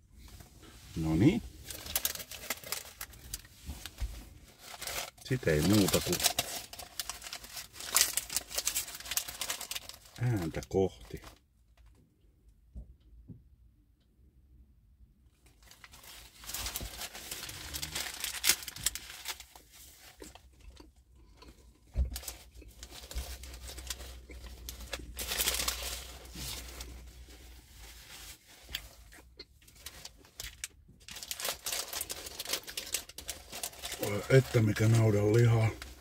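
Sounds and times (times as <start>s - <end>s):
paper wrapper crinkling: 1.0s - 11.3s, 15.4s - 20.4s, 22.2s - 36.0s.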